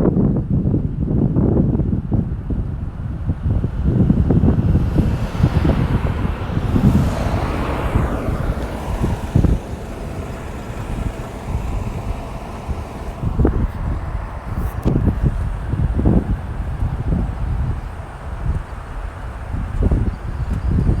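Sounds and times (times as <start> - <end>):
wind buffeting microphone: 0.0 - 21.0
road traffic: 1.2 - 21.0
vehicle passing: 2.7 - 20.5.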